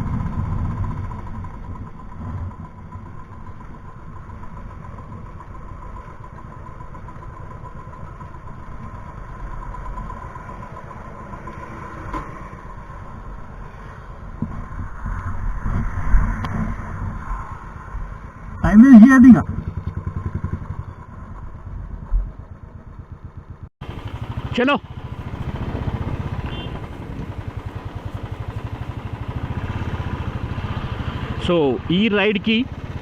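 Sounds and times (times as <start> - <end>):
motorcycle engine running: 0.0 - 15.1, 17.8 - 33.0.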